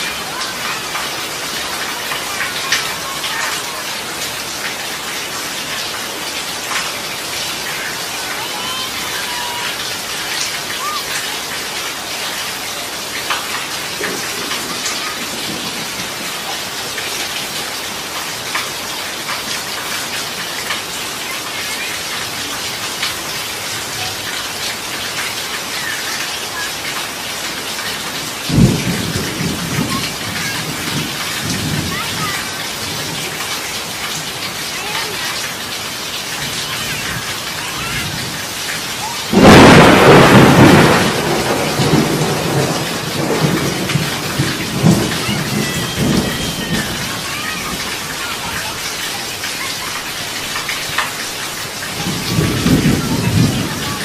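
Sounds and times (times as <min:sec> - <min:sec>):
heavy rain on concrete: 0:00.0 - 0:54.0.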